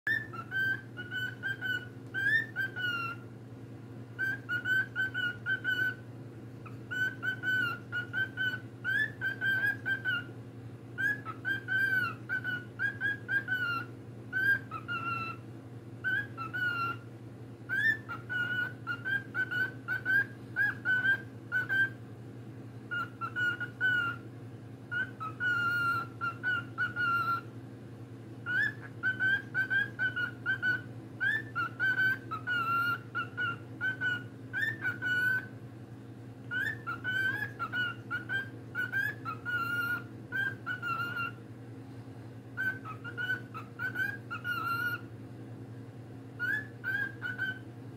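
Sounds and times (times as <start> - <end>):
cockatiel whistling: 0.1 - 3.3, 4.1 - 10.4, 11.0 - 17.1, 17.7 - 22.0, 22.9 - 24.3, 24.9 - 27.5, 28.4 - 35.6, 36.4 - 41.4, 42.6 - 45.1, 46.4 - 47.7
steady low hum: 0.1 - 47.9.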